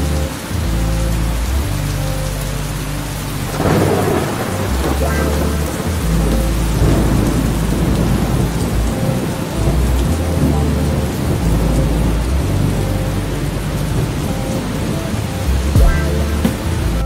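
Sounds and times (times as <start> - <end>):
heavy rain: 0.0 - 17.0
low thunder rumbling: 3.3 - 17.0.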